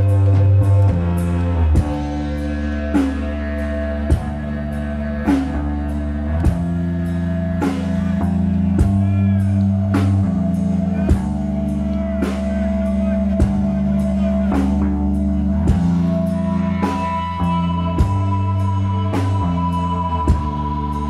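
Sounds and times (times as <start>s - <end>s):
electric bass low notes: 0.0s - 21.0s
electric guitar: 0.0s - 21.0s.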